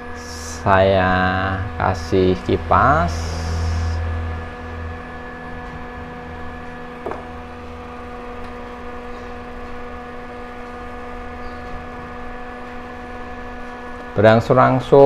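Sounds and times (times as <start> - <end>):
desk fan motor whirring: 0.0 - 15.0.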